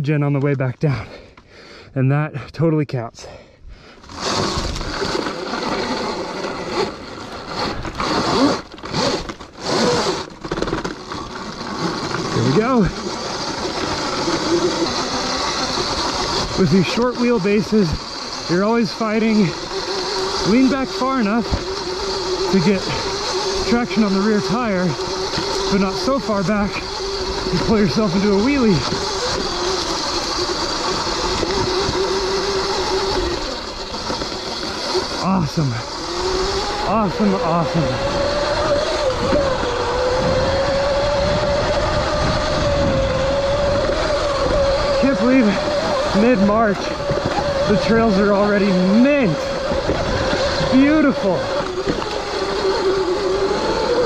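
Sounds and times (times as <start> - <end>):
tyres on dirt: 0.0 - 54.0
electric motor whining: 3.9 - 54.0.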